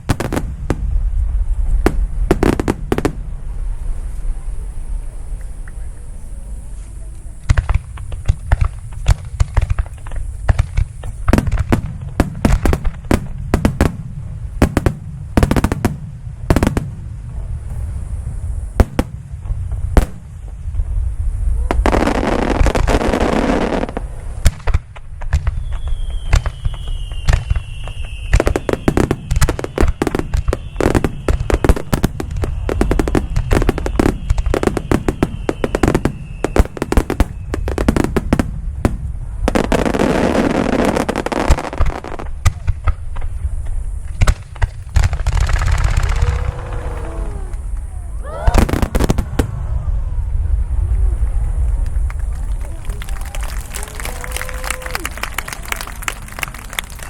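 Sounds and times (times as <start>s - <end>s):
fireworks hissing: 0.0s - 55.0s.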